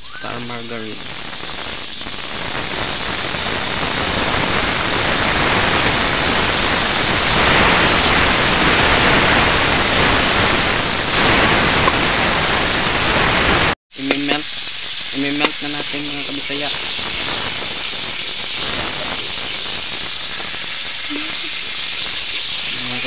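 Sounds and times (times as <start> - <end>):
margarine sizzling in a wok: 0.1 - 23.0.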